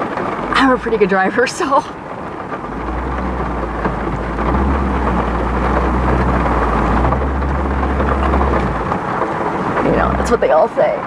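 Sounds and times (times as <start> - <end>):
steady low rumble: 0.0 - 10.9
heavy rain drumming on car roof: 0.0 - 11.0.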